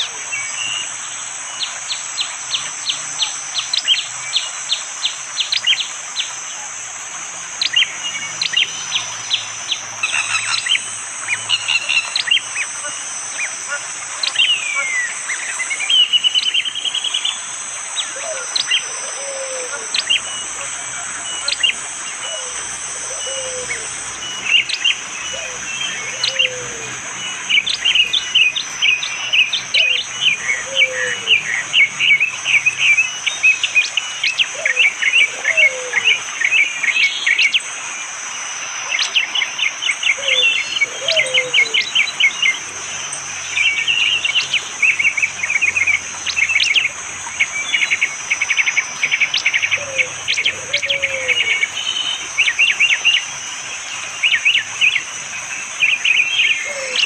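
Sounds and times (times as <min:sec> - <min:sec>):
high insect drone: 0:00.0 - 0:57.0
songbird chips and rattling trills: 0:00.2 - 0:57.0.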